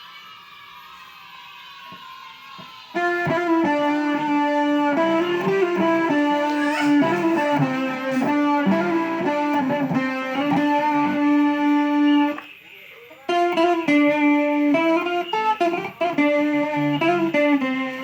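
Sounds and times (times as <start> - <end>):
electric guitar sustained notes: 2.9 - 18.0.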